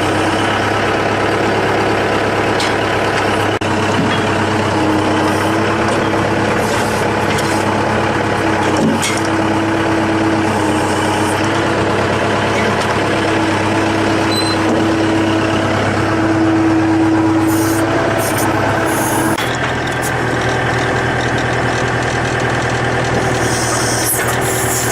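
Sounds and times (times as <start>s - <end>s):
heavy machinery engine hum: 0.0s - 24.9s
steady machine whine: 0.0s - 24.9s.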